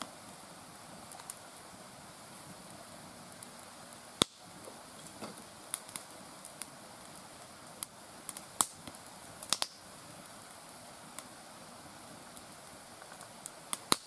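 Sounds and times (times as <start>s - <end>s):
faint steady hiss: 0.0s - 14.0s
fire crackling and popping: 0.0s - 14.0s.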